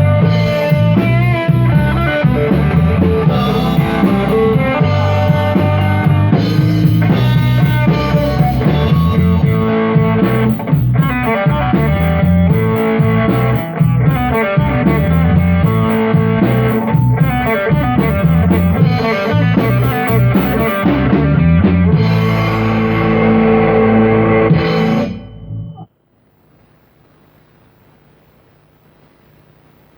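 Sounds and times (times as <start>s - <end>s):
rock band playing live: 0.0s - 25.7s.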